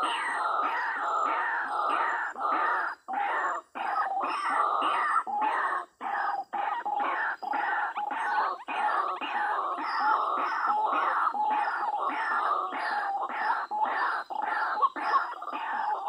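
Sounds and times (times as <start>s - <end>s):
waterhens croaking calls: 0.0s - 16.0s.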